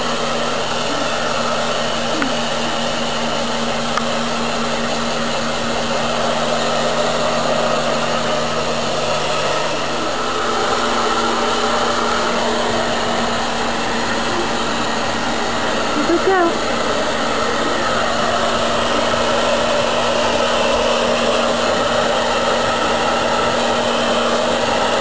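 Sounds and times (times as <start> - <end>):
hair dryer running: 0.0 - 25.0
lower hum: 0.0 - 25.0.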